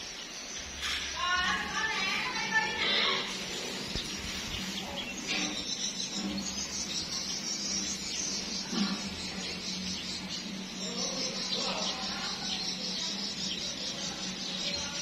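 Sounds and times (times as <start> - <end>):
birds chirping: 0.0 - 15.0
high insect hiss: 0.0 - 15.0.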